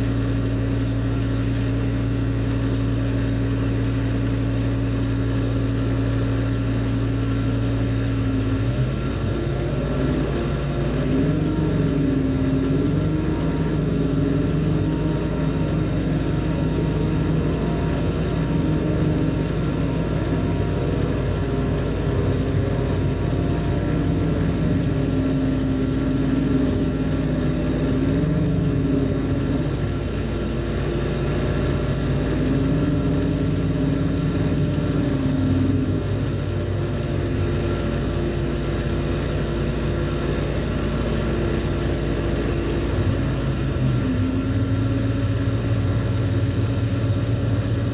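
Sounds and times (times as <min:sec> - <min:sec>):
heavy machinery droning: 0:00.0 - 0:47.9.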